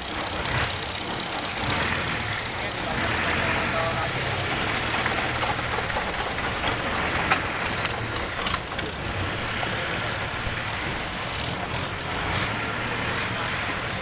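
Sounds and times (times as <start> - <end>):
boat engine running: 0.0 - 14.0
water rushing along hull: 0.0 - 14.0.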